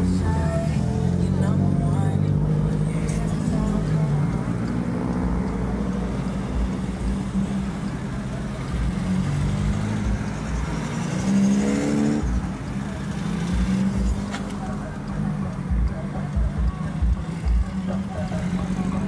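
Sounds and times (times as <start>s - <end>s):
small car engines passing: 0.0s - 16.3s
car engine revving: 0.0s - 19.0s.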